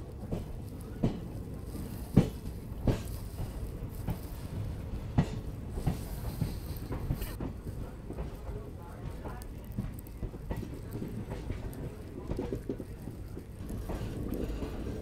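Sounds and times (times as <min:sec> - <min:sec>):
wheels clacking over track: 0:00.0 - 0:15.0
wheels rumbling on rail: 0:00.0 - 0:15.0.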